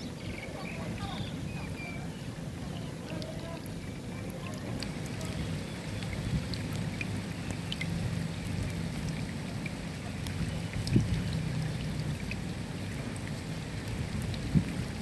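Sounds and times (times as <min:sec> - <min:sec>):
steady rain falling: 0:00.0 - 0:15.0
raindrops ticking: 0:02.6 - 0:15.0.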